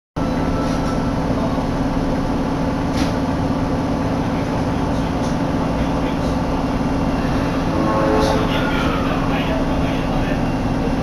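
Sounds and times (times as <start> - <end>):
subway car hum and rumble: 0.2 - 11.0.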